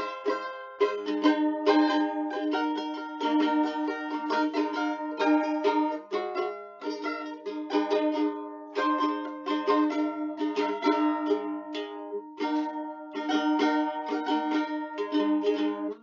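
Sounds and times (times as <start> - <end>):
plucked string instrument: 0.0 - 16.0.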